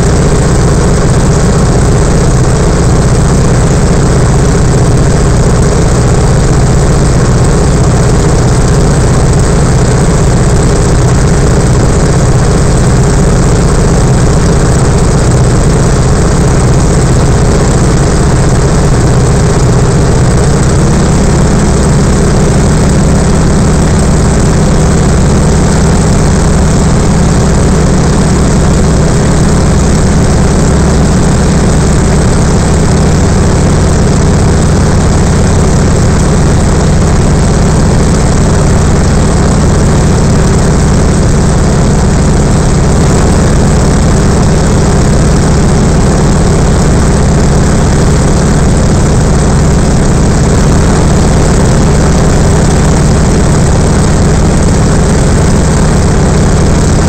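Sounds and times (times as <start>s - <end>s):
aircraft engine and propeller drone: 0.0s - 57.0s.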